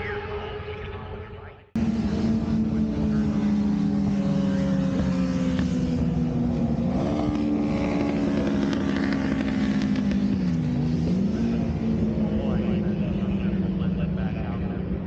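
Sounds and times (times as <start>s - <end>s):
motorcycle engine revving high: 1.8s - 15.0s.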